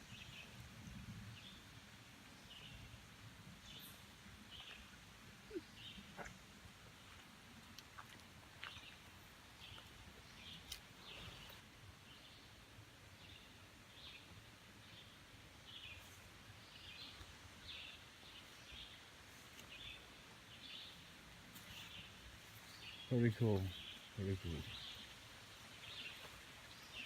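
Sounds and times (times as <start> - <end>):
faint bird chirping: 3.6 - 7.2, 8.6 - 27.0.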